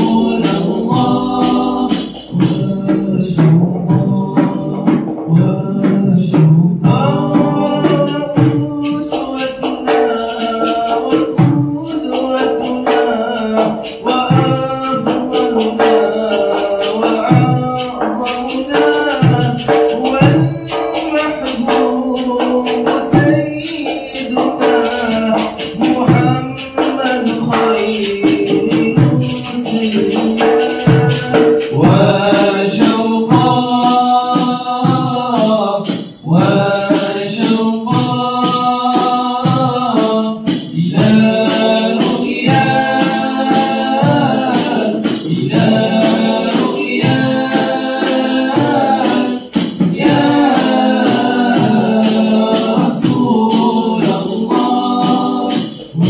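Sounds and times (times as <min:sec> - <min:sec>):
tambourine: 0:00.0 - 0:03.0, 0:07.7 - 0:56.0
man singing devotional chant: 0:00.0 - 0:56.0
men singing in unison: 0:00.0 - 0:56.0
snare drum: 0:00.0 - 0:56.0.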